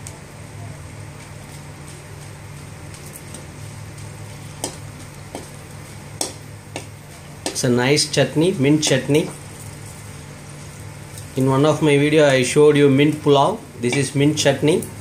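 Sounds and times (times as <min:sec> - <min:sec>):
chillies sizzling in oil: 0:00.0 - 0:15.0.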